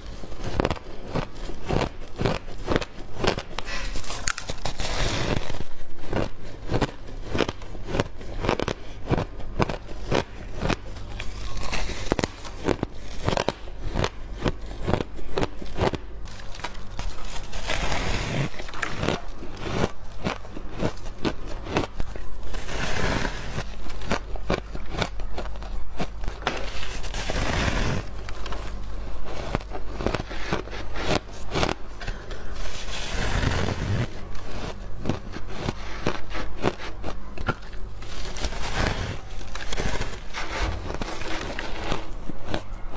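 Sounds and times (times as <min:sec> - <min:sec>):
ice being chewed and crunched: 0:00.0 - 0:42.9.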